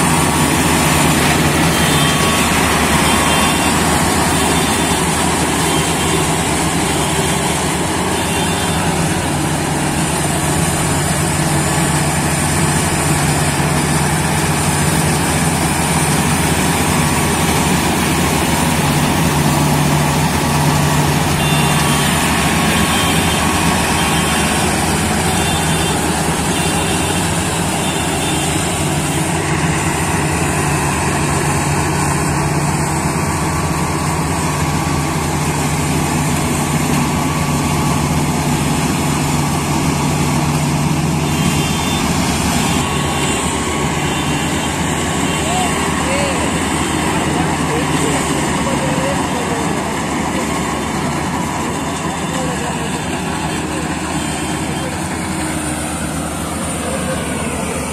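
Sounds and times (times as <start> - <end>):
combine harvester running: 0.0 - 57.9.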